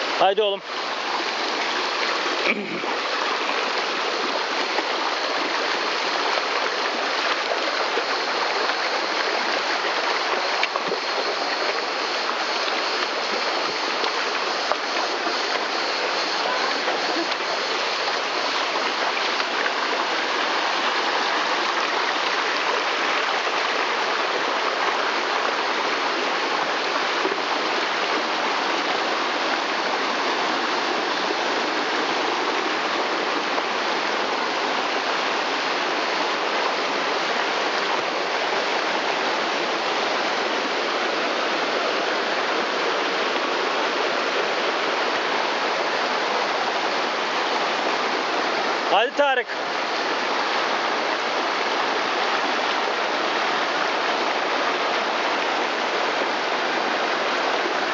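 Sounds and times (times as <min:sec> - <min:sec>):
stream rushing over rocks: 0:00.0 - 0:57.9.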